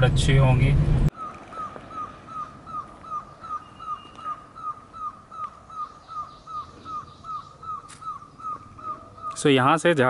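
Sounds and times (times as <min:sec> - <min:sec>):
bird repeating short call: 0:01.1 - 0:09.5.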